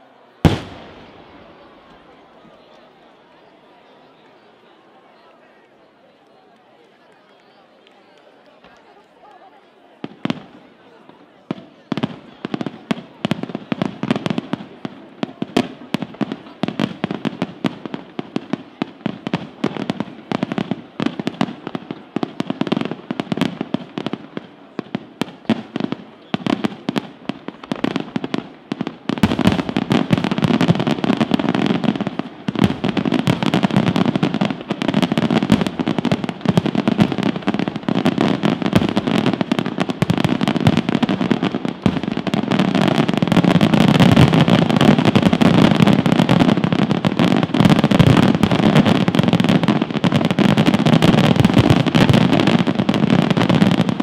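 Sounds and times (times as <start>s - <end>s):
fireworks bursting and crackling: 0.4s - 3.0s, 10.0s - 54.0s.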